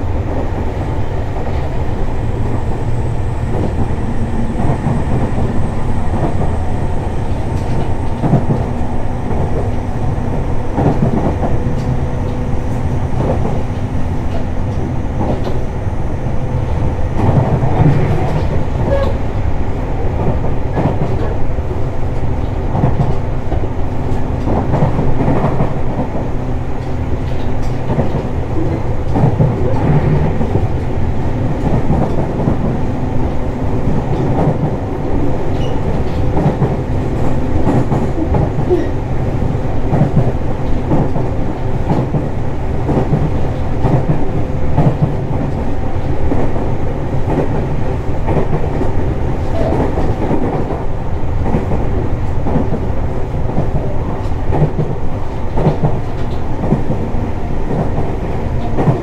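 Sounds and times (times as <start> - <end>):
electric train hum: 0.0 - 59.0
train wheels rumbling on rail: 0.0 - 59.0.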